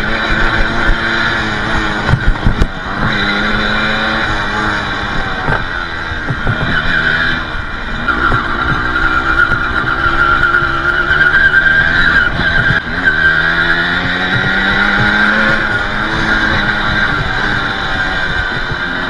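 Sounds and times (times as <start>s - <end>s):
two-stroke motorbike engine revving: 0.0s - 19.0s.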